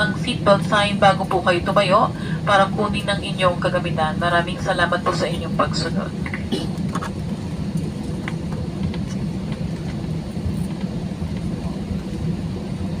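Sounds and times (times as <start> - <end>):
low rumble of airplane cabin: 0.0 - 13.0.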